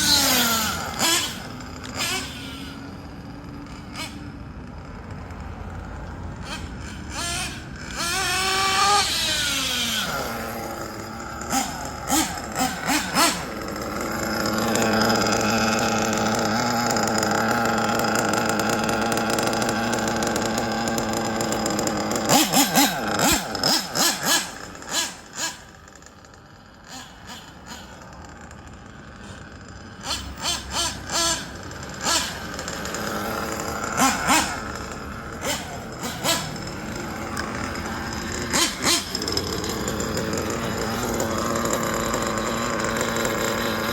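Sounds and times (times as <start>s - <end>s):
small nitro engine revving: 0.0s - 43.9s.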